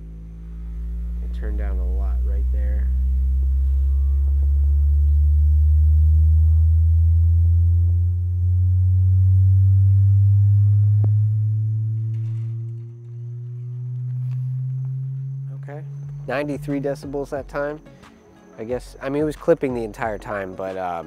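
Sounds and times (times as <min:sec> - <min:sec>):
subwoofer sine tone sweep: 0:00.0 - 0:20.6.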